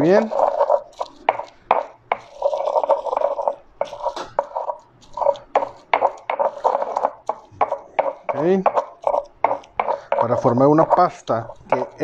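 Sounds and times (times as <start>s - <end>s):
stone pestle scraping stone bowl: 0.0s - 12.0s
pestle knocking against bowl: 0.4s - 11.0s, 11.6s - 12.0s.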